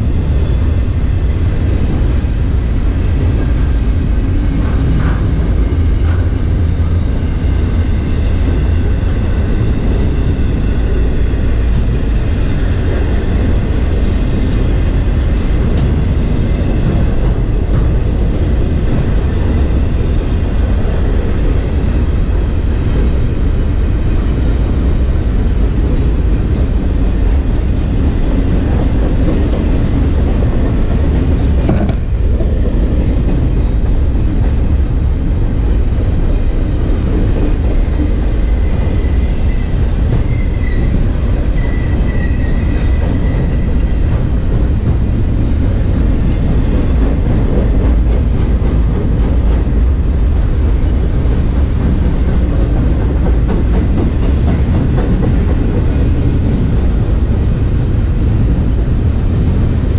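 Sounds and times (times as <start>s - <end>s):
railcar clank: 0.0s - 59.9s
steel wheels rumbling on rail: 0.0s - 59.9s.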